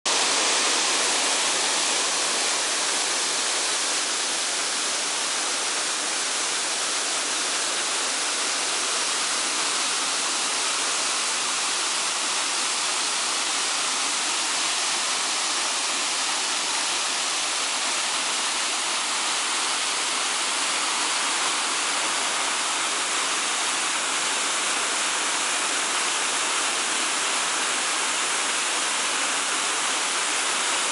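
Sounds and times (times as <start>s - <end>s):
waterfall rushing and splashing: 0.1s - 30.9s.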